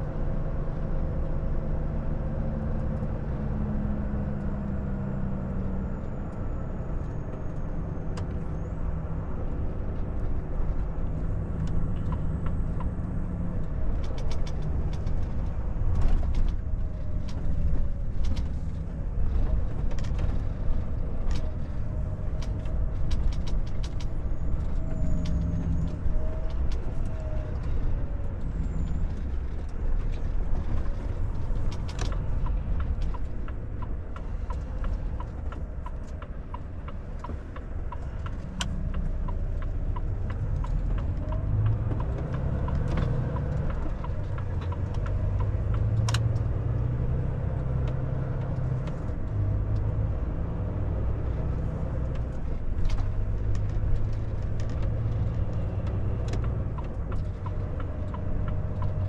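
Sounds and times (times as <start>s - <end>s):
diesel truck engine: 0.0s - 59.0s.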